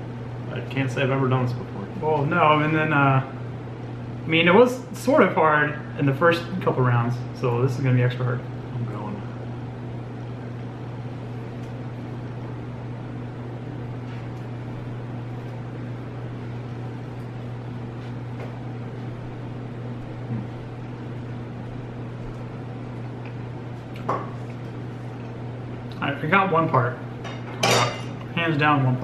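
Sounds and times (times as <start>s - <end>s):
low hum and hiss: 0.0s - 29.0s.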